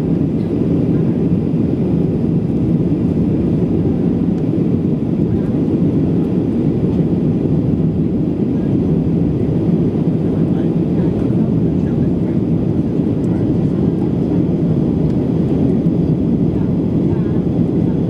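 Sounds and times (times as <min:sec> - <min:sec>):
aircraft cabin engine drone: 0:00.0 - 0:18.0.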